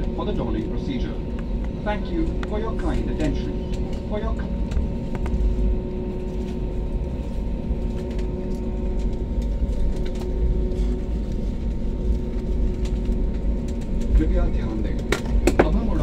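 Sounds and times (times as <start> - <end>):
airliner engines humming in cabin: 0.0 - 16.0.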